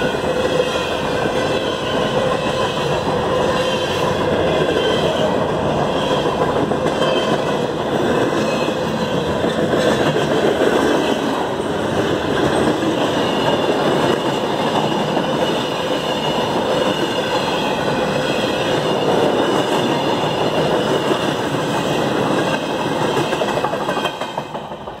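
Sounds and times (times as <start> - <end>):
freight train wheels clattering: 0.0 - 25.0.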